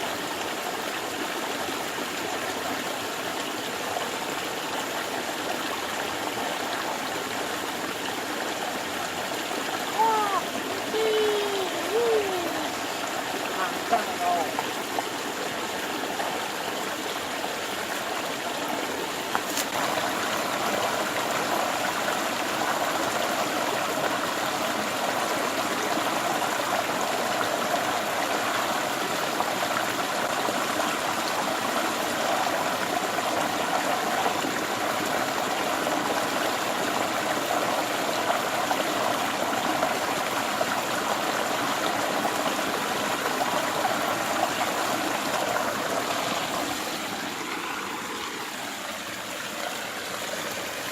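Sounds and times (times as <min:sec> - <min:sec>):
stream water flowing: 0:00.0 - 0:50.9.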